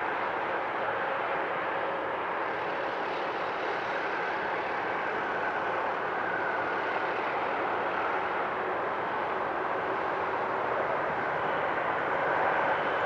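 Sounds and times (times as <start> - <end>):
faint whine: 0.0 - 13.0
jet engines roaring: 0.2 - 13.0.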